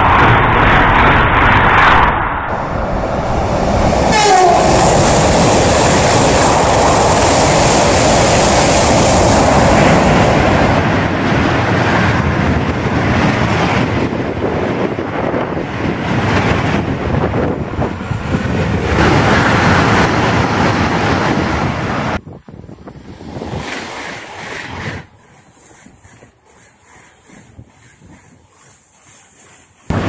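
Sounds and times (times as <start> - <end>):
wind on the microphone: 0.0 - 26.5, 27.2 - 28.7
high-speed train passing: 0.0 - 30.0.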